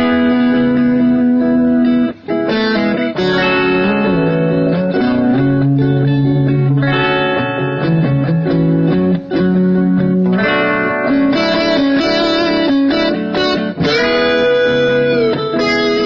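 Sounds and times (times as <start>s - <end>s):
guitar notes through delay: 0.0s - 16.0s
sustained background guitar notes: 0.0s - 16.0s.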